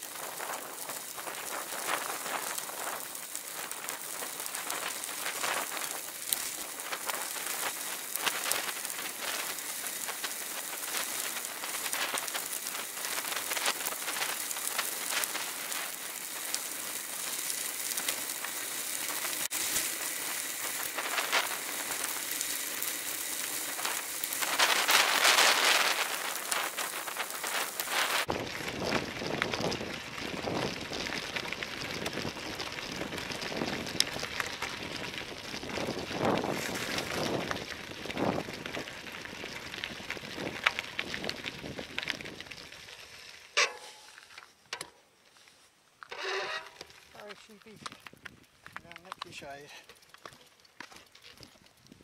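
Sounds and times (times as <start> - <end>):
bicycle tyres crunching on gravel: 0.0 - 52.0.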